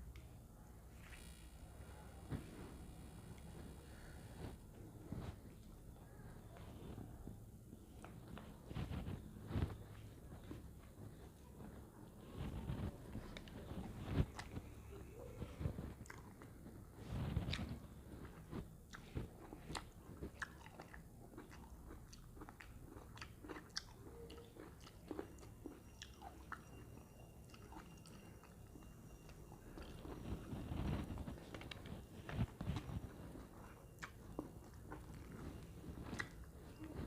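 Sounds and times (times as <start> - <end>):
person chewing with crunches: 2.4 - 37.0.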